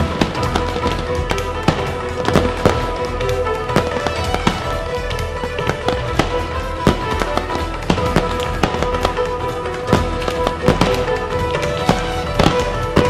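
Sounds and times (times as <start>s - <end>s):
firework shells bursting: 0.0s - 13.0s
steady music: 0.0s - 13.0s.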